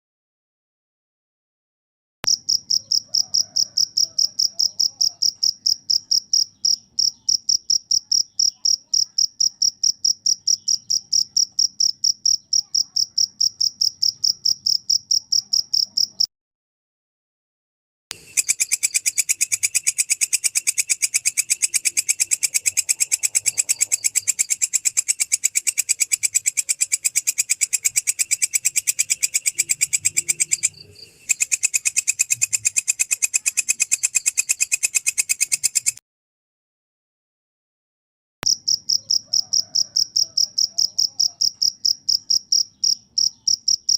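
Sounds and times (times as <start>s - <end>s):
cricket chirping: 2.3s - 16.3s, 18.1s - 36.0s, 38.4s - 43.9s
harsh pulsing insect call: 2.3s - 16.3s, 18.2s - 36.0s, 38.5s - 43.9s.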